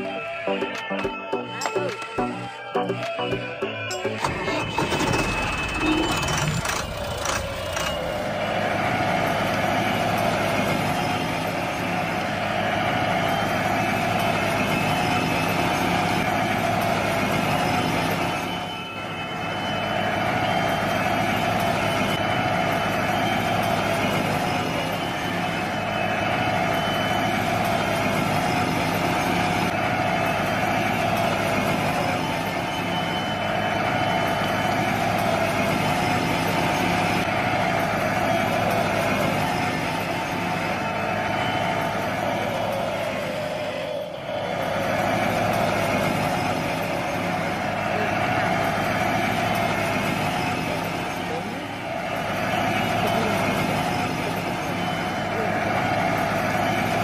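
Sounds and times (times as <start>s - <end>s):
toy excavator mechanical drone: 1.6s - 57.0s.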